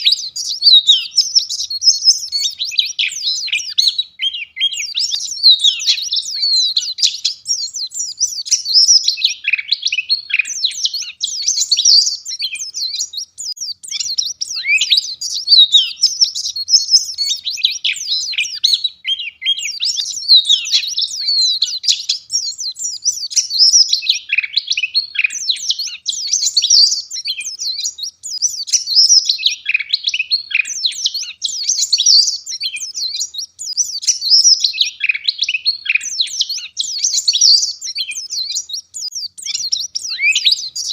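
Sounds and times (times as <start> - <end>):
bird chirping and twittering: 0.0 - 40.9.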